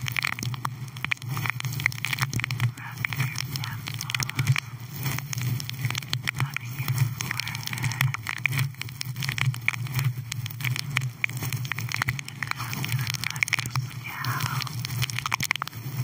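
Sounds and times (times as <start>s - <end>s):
fur windscreen rustling on microphone: 0.0s - 16.0s
low steady hum: 0.0s - 16.0s.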